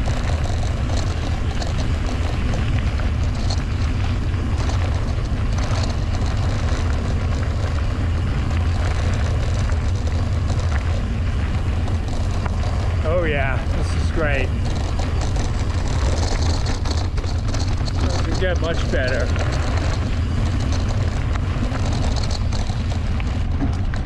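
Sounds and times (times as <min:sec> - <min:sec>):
bike ticks and rattles: 0:00.0 - 0:24.0
wind rumbling on microphone: 0:00.0 - 0:24.0.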